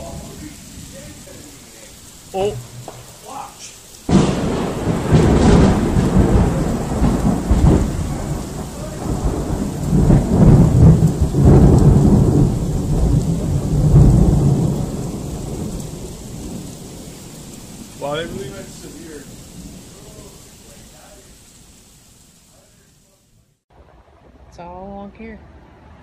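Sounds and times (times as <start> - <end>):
rolling thunder: 0.0 - 23.1
rain: 0.0 - 26.0.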